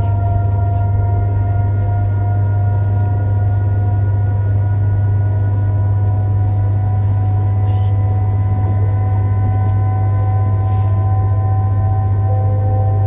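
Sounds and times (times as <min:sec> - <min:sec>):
train cabin low hum: 0:00.0 - 0:13.0
train running rumble: 0:00.0 - 0:13.0
high whining tones: 0:01.8 - 0:13.0.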